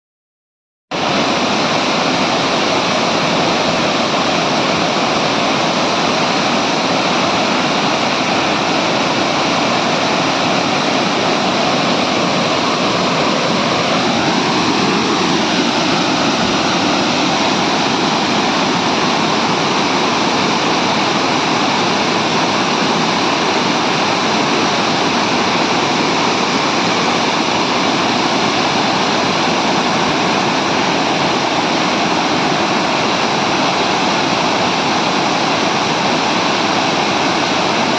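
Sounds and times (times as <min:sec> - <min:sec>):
waterfall rushing: 0:00.9 - 0:37.9.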